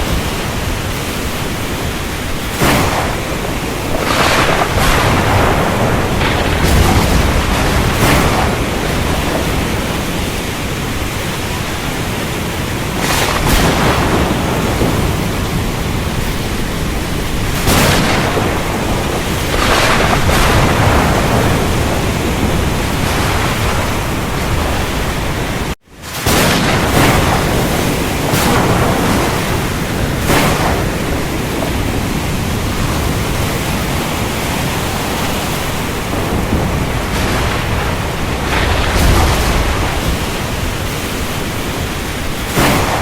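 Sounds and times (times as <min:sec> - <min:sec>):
heavy rain: 0:00.0 - 0:43.0
rolling thunder: 0:00.0 - 0:43.0.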